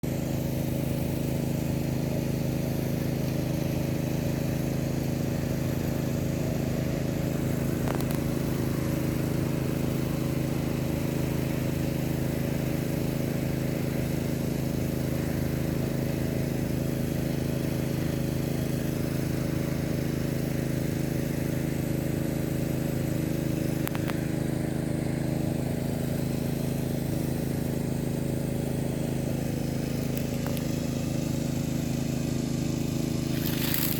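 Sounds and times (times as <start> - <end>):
low motor hum: 0.0 - 33.9.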